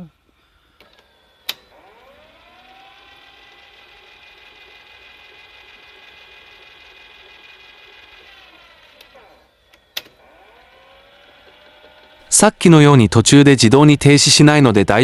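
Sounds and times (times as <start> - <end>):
video recorder motors whining: 0.0 - 12.6.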